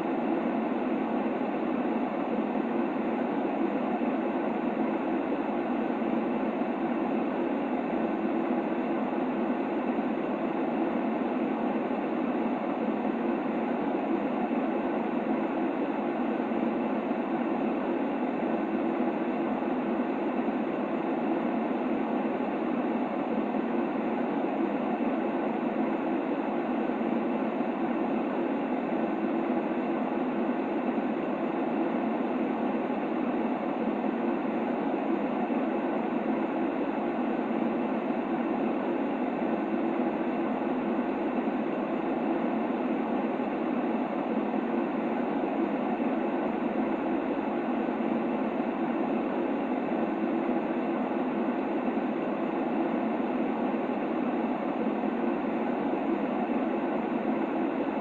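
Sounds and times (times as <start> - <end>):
muffled white noise: 0.0 - 58.0.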